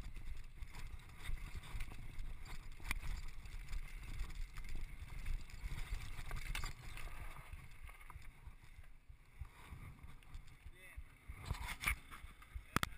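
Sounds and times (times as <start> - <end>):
bike rattling over bumps: 0.0 - 12.7
bike tyres rumbling: 0.0 - 12.9.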